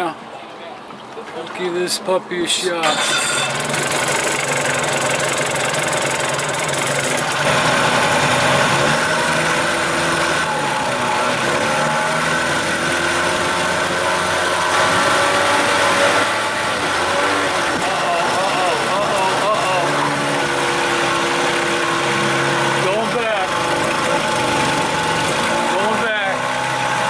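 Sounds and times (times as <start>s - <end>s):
outboard motor running: 2.8s - 27.0s.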